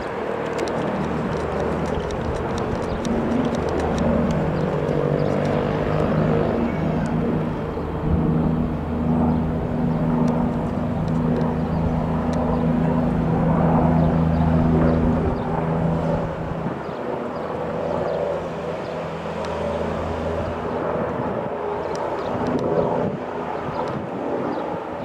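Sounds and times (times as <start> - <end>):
helicopter flying past: 0.0 - 25.0.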